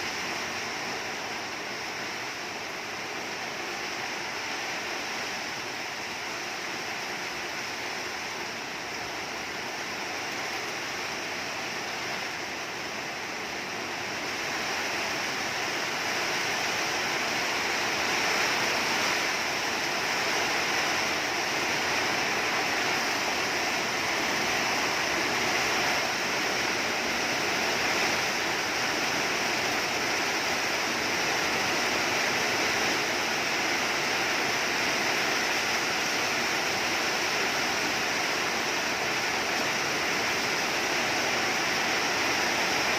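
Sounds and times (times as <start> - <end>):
heavy rain falling: 0.0 - 42.9
wind: 0.0 - 42.9.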